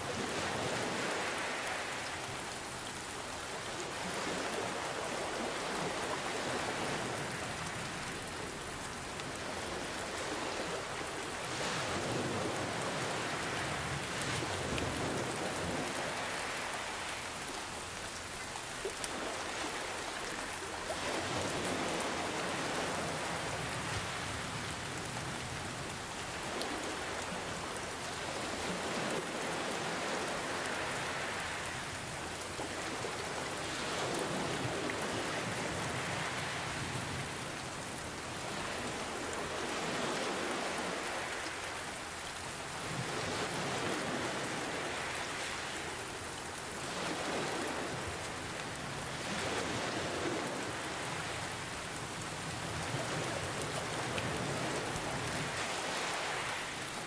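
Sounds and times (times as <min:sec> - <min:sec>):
ocean waves washing: 0:00.0 - 0:57.0
steady rain: 0:00.0 - 0:57.0.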